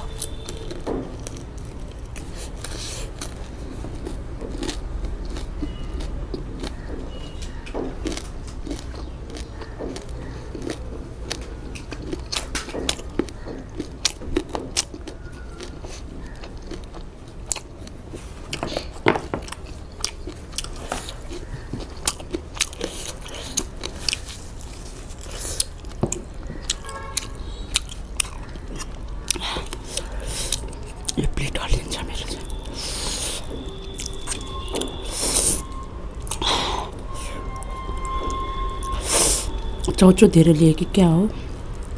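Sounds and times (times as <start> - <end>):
person chewing food: 0.0 - 37.5.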